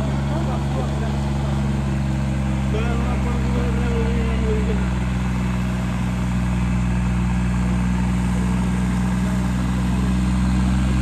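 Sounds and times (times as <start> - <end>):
diesel tractor engine running: 0.0 - 11.0.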